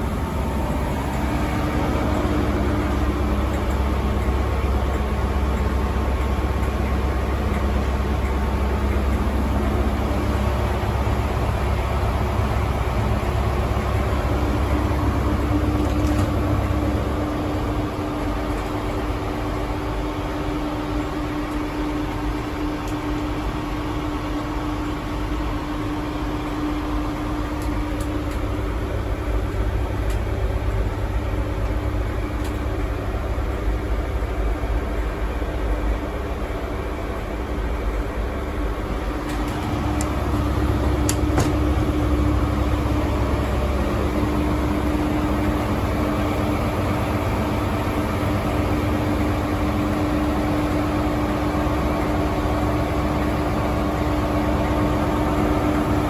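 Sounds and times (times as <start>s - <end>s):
diesel engine idling: 0.0s - 56.0s
steady hum: 0.0s - 56.0s.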